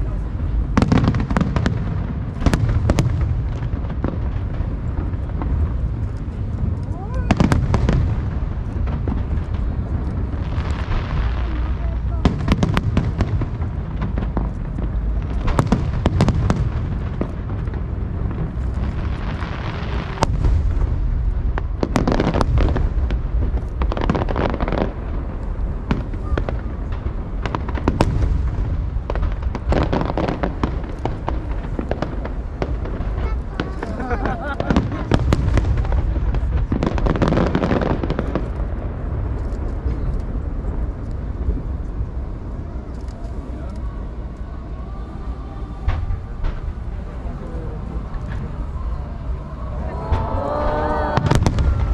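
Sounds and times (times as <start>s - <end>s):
fireworks bangs and cracks: 0.0s - 51.9s
fireworks crackling hiss: 0.0s - 51.9s
low booming: 0.0s - 51.9s
steady low rumble: 0.0s - 51.9s.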